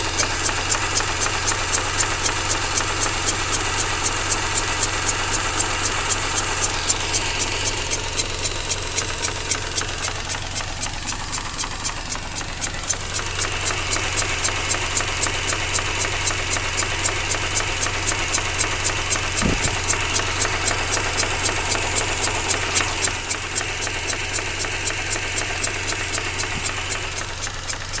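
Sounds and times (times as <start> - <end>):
rotary engine idling roughly: 0.0 - 28.0
valve ticking: 0.0 - 28.0.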